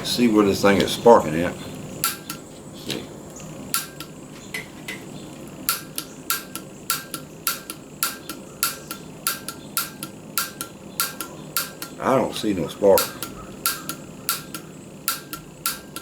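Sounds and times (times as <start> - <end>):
gas stove igniter clicking: 0.4 - 16.0.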